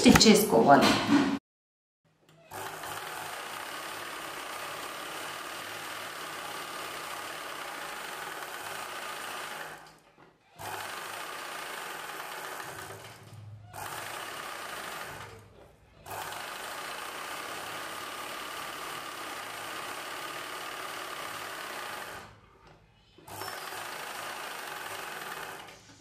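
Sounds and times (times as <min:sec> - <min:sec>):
sewing machine running: 0:02.4 - 0:10.0, 0:10.6 - 0:22.5, 0:23.2 - 0:26.0.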